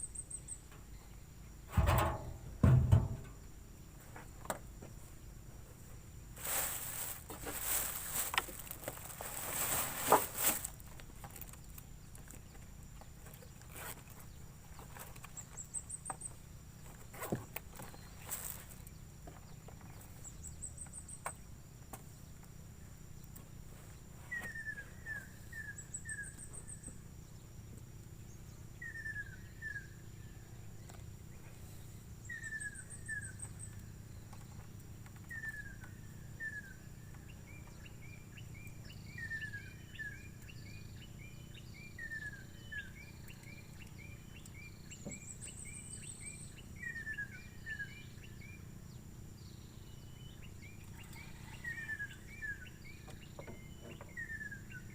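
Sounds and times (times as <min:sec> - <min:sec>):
high insect hum: 0:00.0 - 0:54.9.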